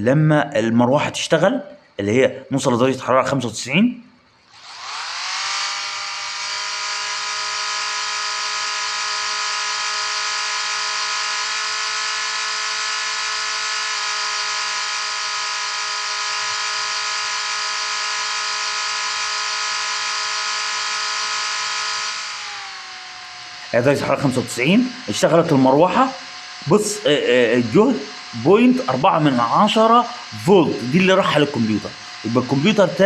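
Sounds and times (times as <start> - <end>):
radiator cooling fan whining: 4.5 - 33.0.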